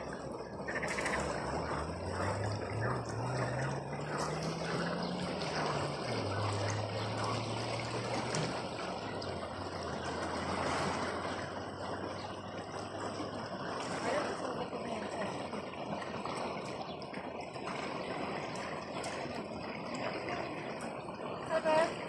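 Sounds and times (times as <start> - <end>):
low hum: 0.0 - 22.0
water trickling: 0.0 - 22.0.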